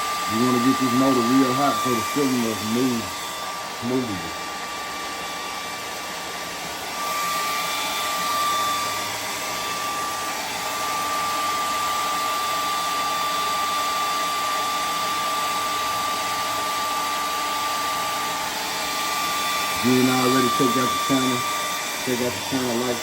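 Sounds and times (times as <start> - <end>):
hair dryer blowing with whine: 0.0 - 23.0.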